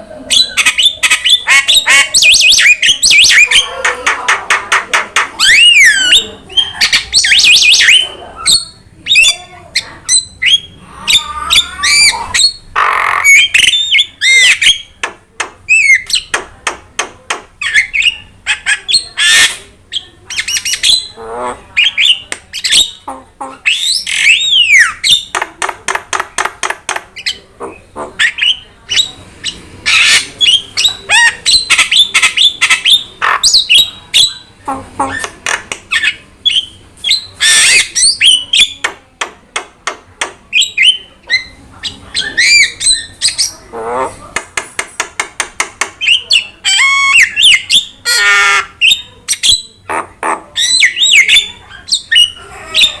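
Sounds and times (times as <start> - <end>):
starling singing: 0.3 - 16.4, 17.6 - 39.0, 40.5 - 44.2, 45.9 - 53.0.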